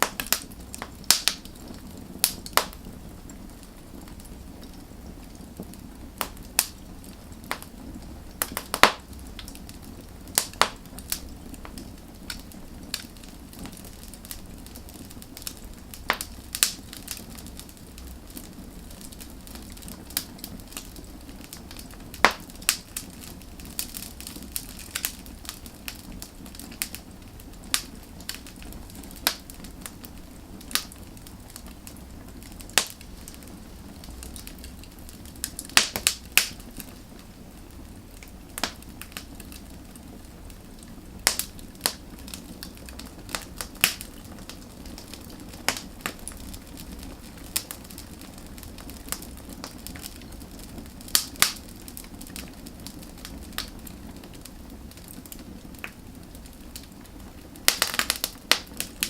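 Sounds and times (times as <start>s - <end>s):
firewood burning with crackles: 0.0s - 59.0s
sharp crackles and pops: 0.0s - 59.0s.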